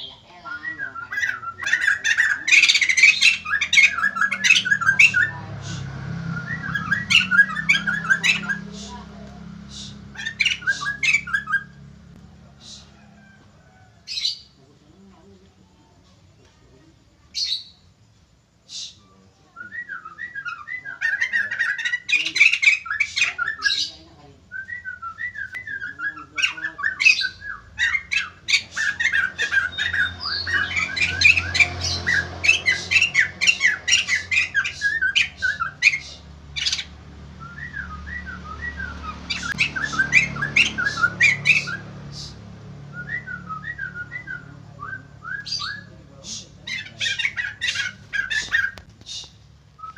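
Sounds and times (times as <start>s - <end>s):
bird chattering and squawking: 0.0s - 13.4s, 14.0s - 14.7s, 17.2s - 17.9s, 18.6s - 49.9s.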